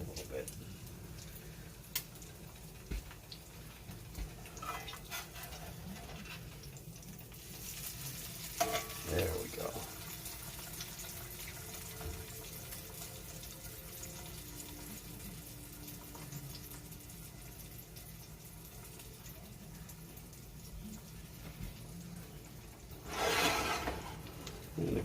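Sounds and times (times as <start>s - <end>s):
egg sizzling in a skillet: 0.0s - 25.0s.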